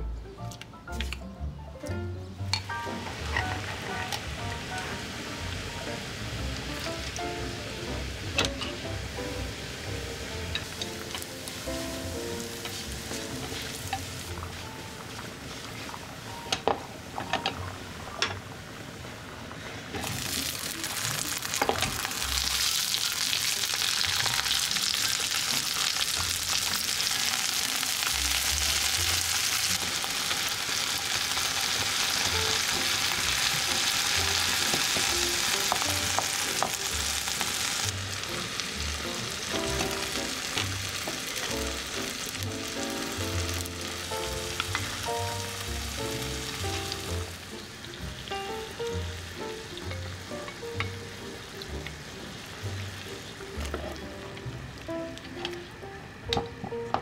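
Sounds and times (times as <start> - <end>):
garlic sizzling in oil: 2.4 - 56.4.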